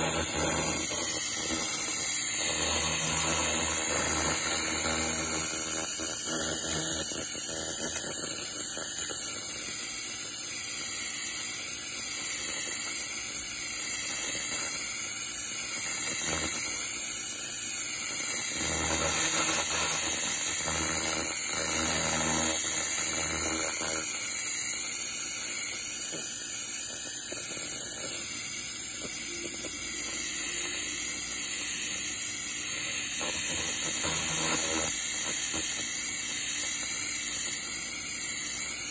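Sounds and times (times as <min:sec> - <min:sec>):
laser cleaner high-pitched hiss: 0:00.0 - 0:38.9.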